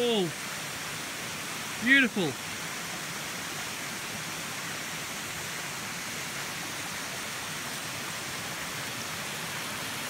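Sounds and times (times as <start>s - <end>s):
creek running between boulders: 0.0s - 10.0s
waterfall rushing: 0.0s - 10.0s.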